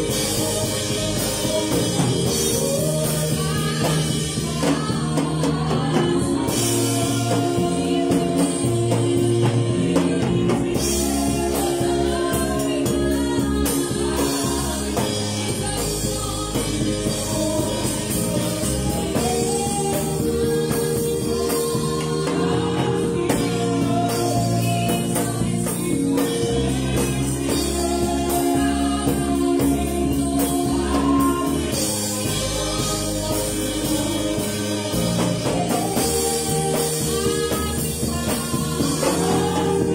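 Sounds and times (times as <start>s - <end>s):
drum kit played with sticks: 0.0s - 39.9s
electronic keyboard chords: 0.0s - 39.9s
woman singing: 0.0s - 39.9s.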